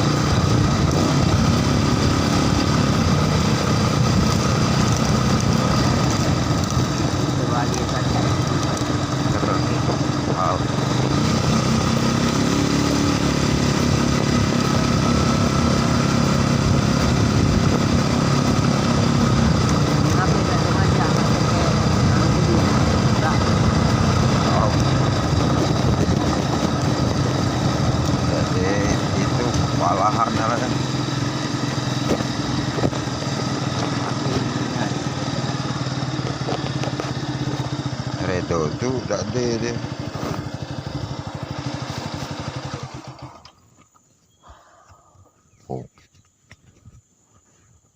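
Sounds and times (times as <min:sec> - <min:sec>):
vehicle engine running: 0:00.0 - 0:44.5.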